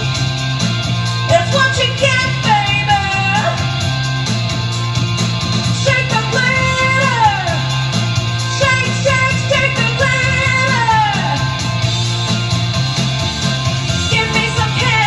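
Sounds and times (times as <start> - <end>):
instrumental pop-rock music: 0.0 - 15.0.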